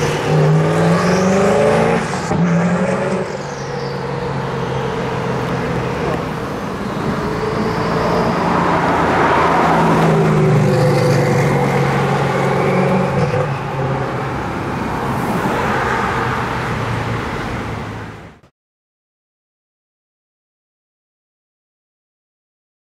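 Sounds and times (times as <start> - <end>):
street traffic noise: 0.0 - 18.5.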